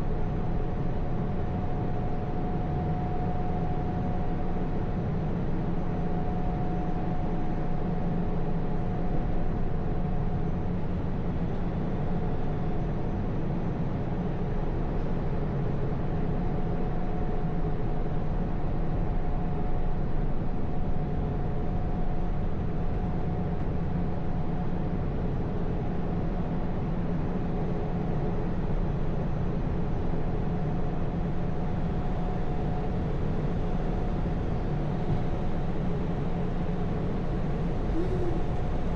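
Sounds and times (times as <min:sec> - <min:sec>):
faint steady whine: 0:00.0 - 0:38.9.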